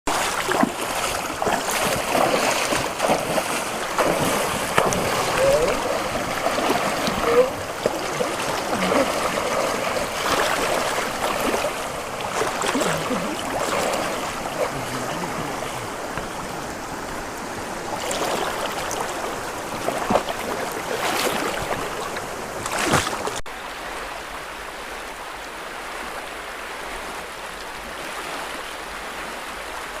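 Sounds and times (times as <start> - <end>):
river water rushing and splashing: 0.1 - 30.0
steady water hiss: 0.1 - 30.0.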